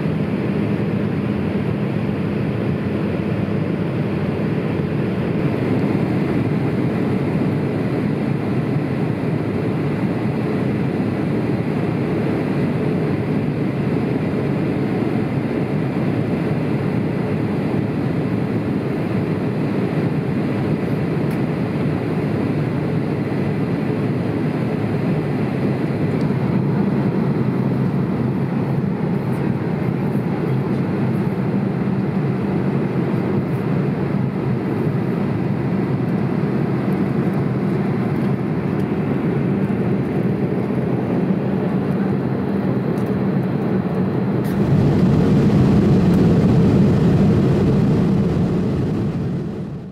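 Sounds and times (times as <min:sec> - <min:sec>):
airplane cabin noise: 0:00.0 - 0:49.9.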